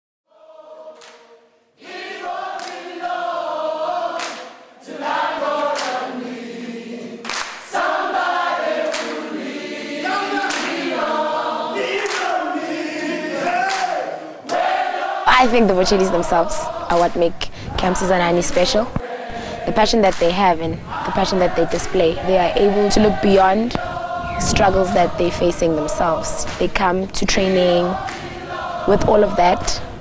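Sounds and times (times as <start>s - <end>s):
choir singing: 0.3s - 30.0s.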